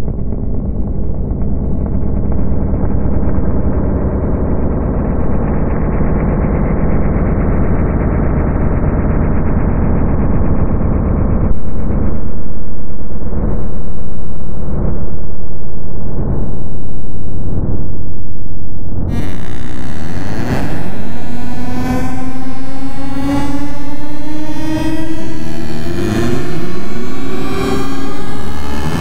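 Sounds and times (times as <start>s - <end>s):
electronic drone music: 0.0s - 29.0s.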